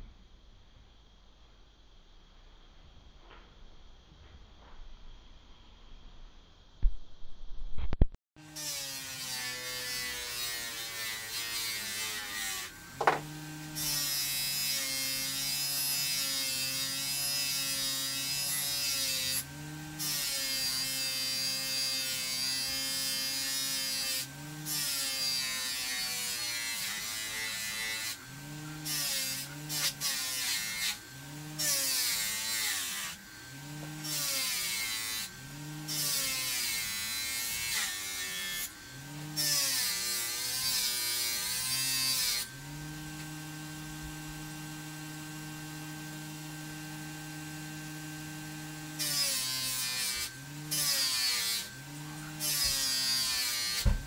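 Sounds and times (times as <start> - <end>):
bench grinder motor hum: 8.4 - 54.0.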